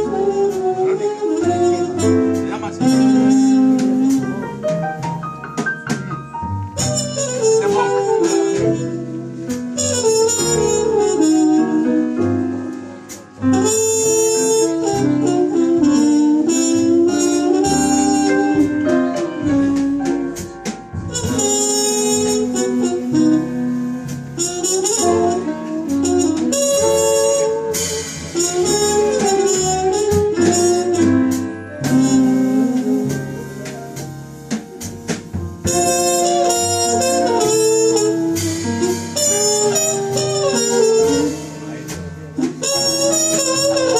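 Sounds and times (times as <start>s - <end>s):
bass: 0.0s - 43.9s
drums: 0.0s - 43.9s
horn melody: 0.0s - 43.9s.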